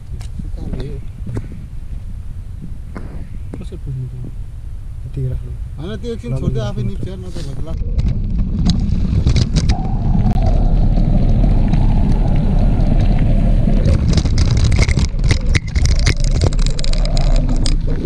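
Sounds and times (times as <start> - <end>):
wind rumble on camera microphone: 0.0 - 18.0.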